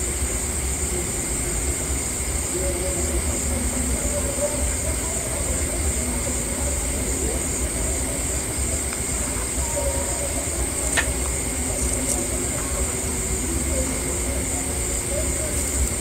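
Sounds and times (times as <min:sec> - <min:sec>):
high-pitched hiss: 0:00.0 - 0:16.0.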